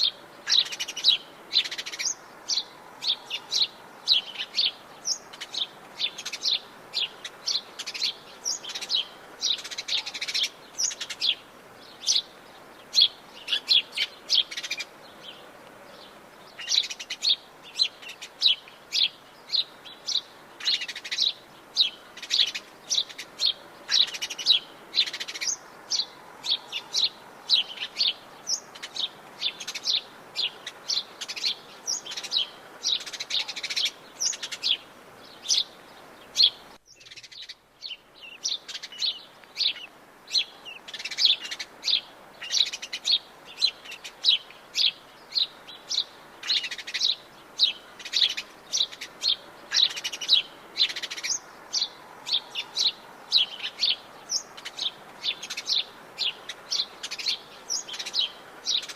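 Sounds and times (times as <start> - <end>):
birds chirping: 0.0 - 58.9
faint background hiss: 0.0 - 58.9.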